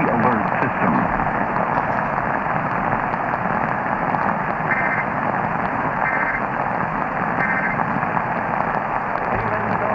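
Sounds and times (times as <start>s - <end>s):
radio hiss and static: 0.0s - 9.9s.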